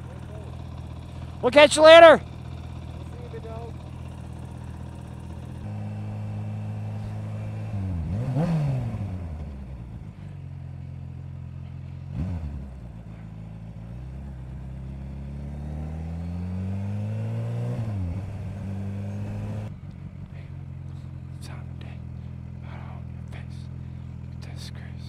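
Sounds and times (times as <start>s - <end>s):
motorcycle engine accelerating: 0.0s - 24.6s.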